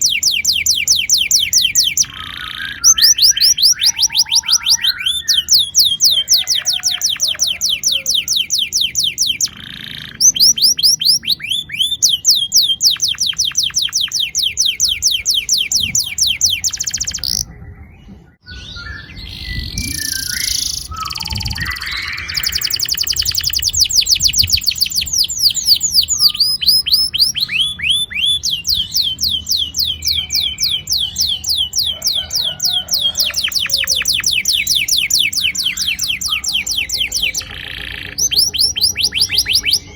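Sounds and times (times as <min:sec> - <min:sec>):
bird chirps: 0:00.0 - 0:39.9
canary singing rolling trills: 0:00.0 - 0:39.9.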